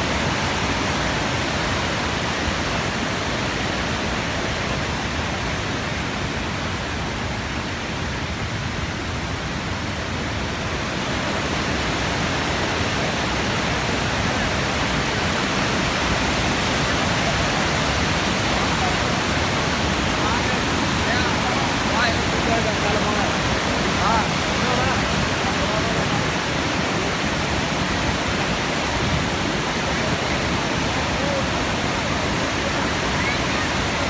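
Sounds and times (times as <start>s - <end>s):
waterfall cascading: 0.0s - 34.0s.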